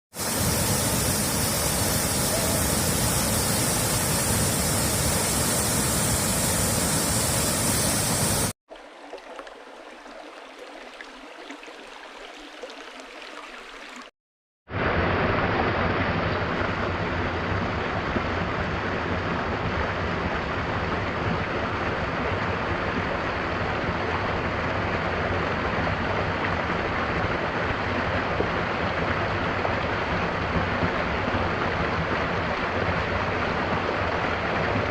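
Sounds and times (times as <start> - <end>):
rushing water: 0.1 - 14.1, 14.7 - 34.9.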